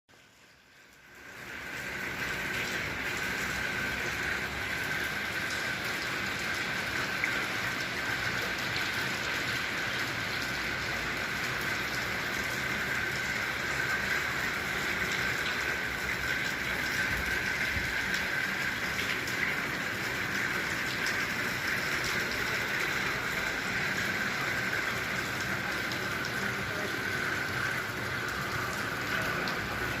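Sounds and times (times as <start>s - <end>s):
steady rain on hard surfaces: 0.1s - 30.0s.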